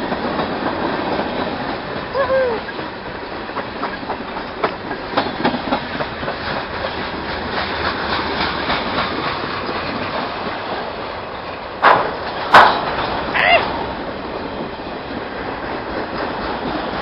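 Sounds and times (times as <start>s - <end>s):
freight train rumbling: 0.0s - 17.0s
wheels clicking and clanking: 0.0s - 17.0s.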